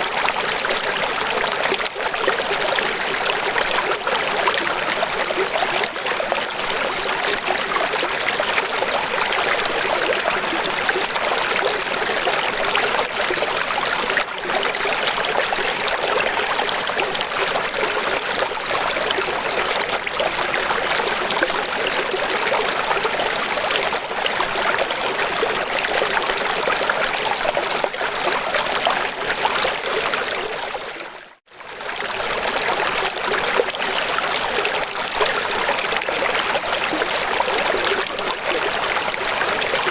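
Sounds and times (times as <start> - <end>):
rushing trickling water: 0.0 - 39.9.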